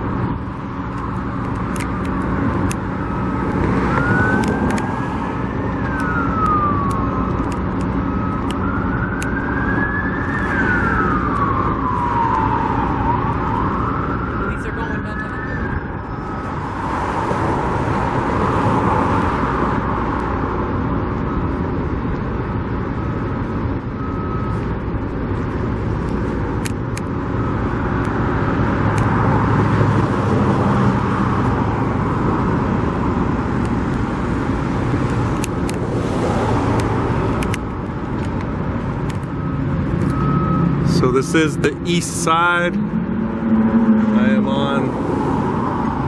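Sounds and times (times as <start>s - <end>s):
steady rumble of cars: 0.0s - 46.0s.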